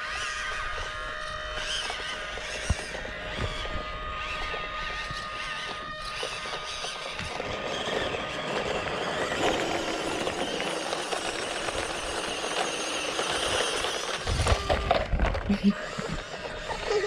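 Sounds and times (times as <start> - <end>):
toy truck motor whirring: 0.0 - 17.0.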